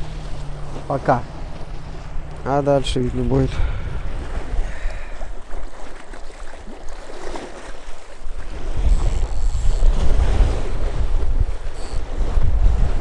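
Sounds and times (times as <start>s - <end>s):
waves washing: 0.0s - 13.0s
wind buffeting microphone: 0.0s - 13.0s.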